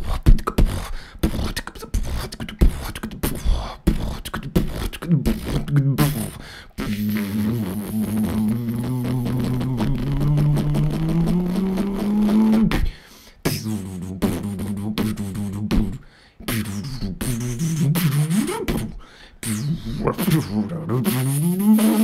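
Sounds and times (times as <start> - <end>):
person beatboxing: 0.0 - 22.0.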